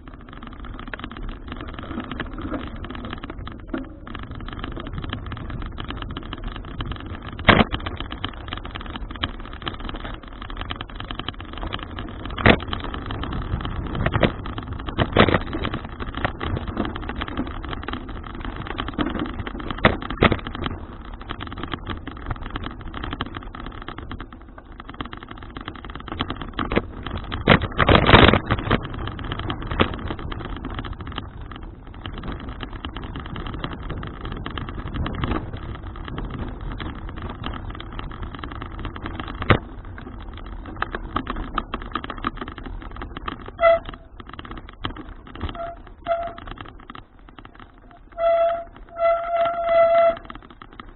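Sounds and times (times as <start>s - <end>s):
sharp knocks and rattles: 0.0s - 50.9s
wind and rolling noise: 0.0s - 50.9s.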